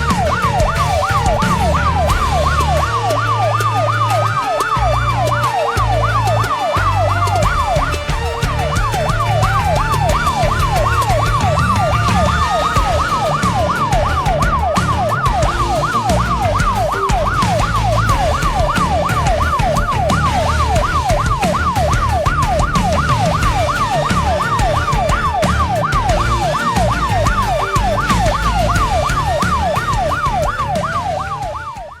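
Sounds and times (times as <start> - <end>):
siren fast yelp: 0.0 - 32.0
siren slow wail: 0.0 - 32.0.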